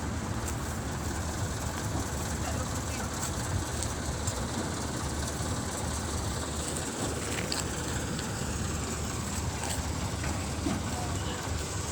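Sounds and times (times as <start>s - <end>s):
low engine rumble: 0.0s - 11.9s.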